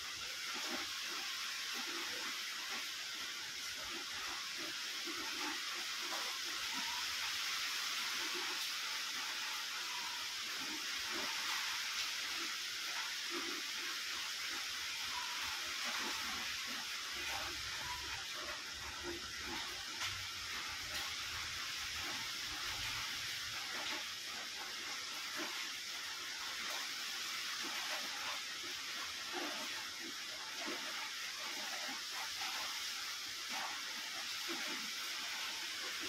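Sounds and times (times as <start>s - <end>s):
steady hiss: 0.0s - 36.0s.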